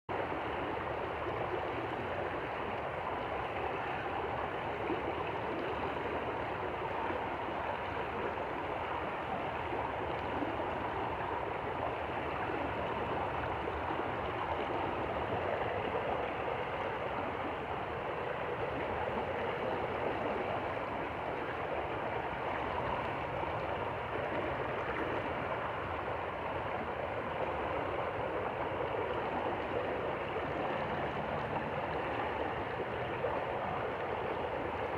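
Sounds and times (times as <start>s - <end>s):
stream gurgling over rocks: 0.1s - 34.9s.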